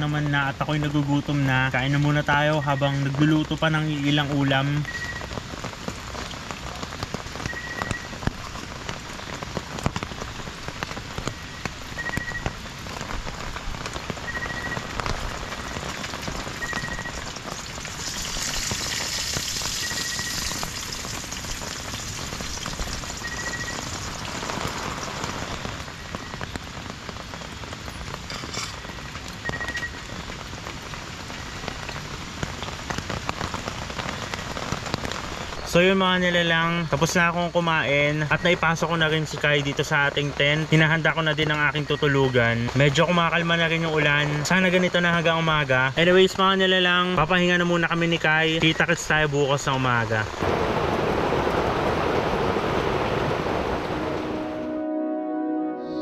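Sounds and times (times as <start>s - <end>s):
heavy rain on a tent: 0.0s - 54.8s.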